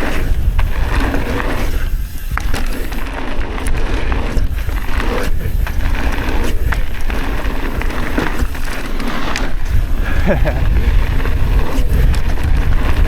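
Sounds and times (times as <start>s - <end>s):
bike clicks and rattles: 0.0s - 13.0s
bike tyre noise on dirt: 0.0s - 13.0s
wind rumbling on microphone: 0.0s - 13.0s.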